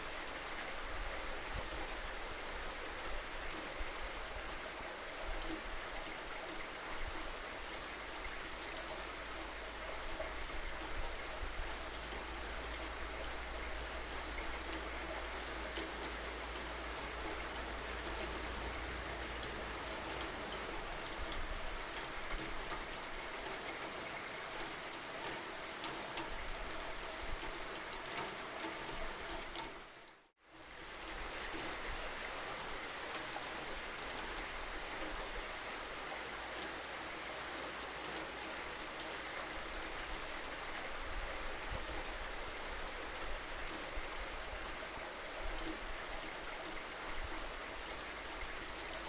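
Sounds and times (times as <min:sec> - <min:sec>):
rain drops ticking on a surface: 0:00.0 - 0:49.0.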